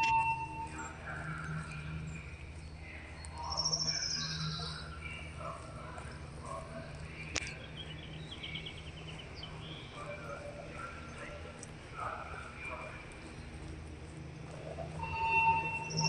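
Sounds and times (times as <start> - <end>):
birds singing: 0.0 - 16.0
low hum: 0.0 - 16.0.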